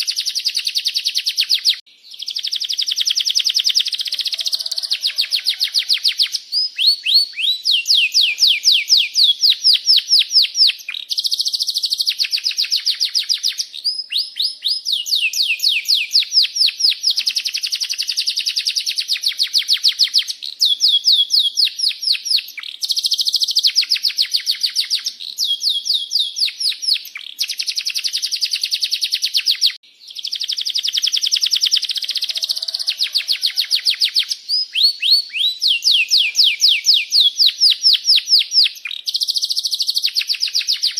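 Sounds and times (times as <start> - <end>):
canary singing rolling trills: 0.0 - 40.9.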